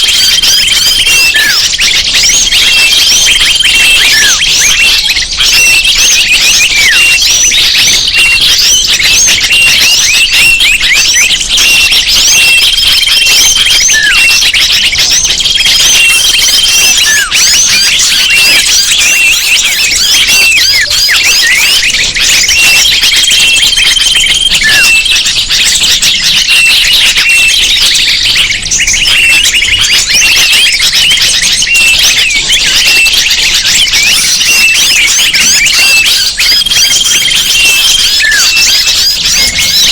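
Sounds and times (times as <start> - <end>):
held level whistles: 0.0 - 39.9
small birds chirping: 0.0 - 39.9.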